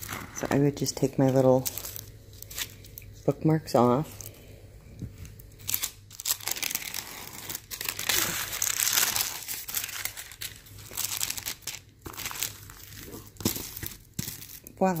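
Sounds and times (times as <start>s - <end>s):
plastic sheet crinkling: 0.0s - 3.3s, 5.2s - 15.0s.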